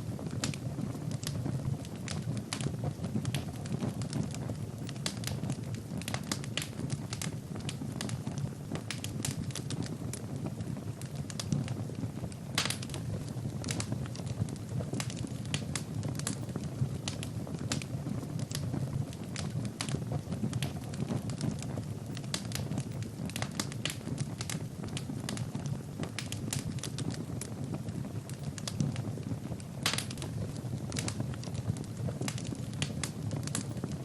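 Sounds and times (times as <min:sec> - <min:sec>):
logs crackling and popping: 0:00.0 - 0:34.0
low rumble of flames: 0:00.0 - 0:34.0.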